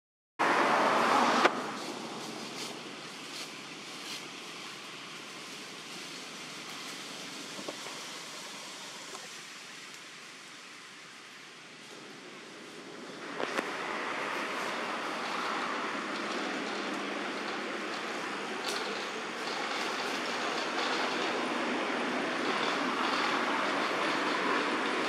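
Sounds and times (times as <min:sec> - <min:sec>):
leaves rustling: 0:01.2 - 0:25.0
forest background hiss: 0:01.5 - 0:25.0.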